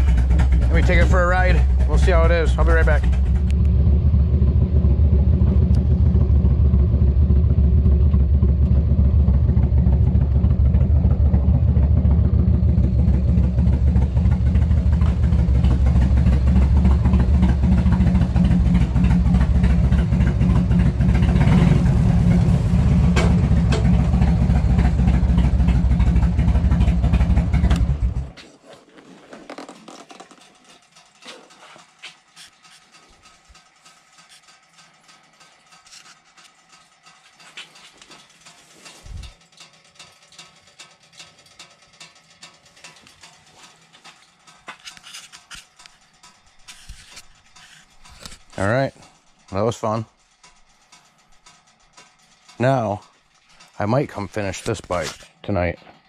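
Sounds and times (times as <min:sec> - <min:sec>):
motorcycle engine running: 0:00.0 - 0:28.4, 0:29.2 - 0:55.3.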